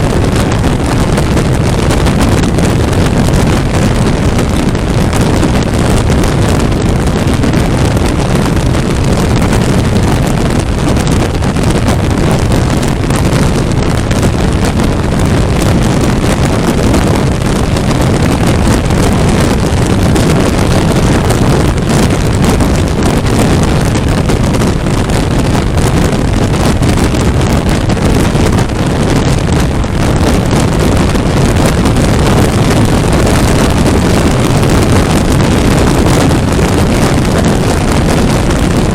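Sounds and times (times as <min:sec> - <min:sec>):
motorcycle running: 0:00.0 - 0:38.9
wind noise on microphone: 0:00.0 - 0:38.9.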